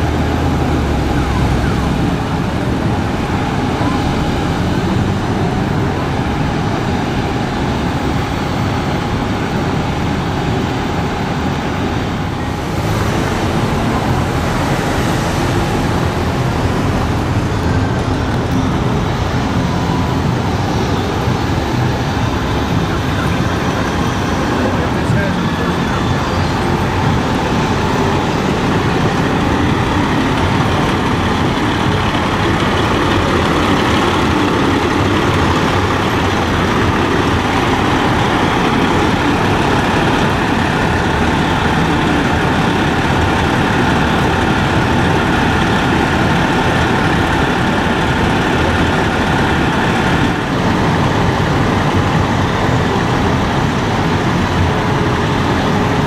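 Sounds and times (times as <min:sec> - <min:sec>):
diesel truck engines rumbling: 0:00.0 - 0:56.0.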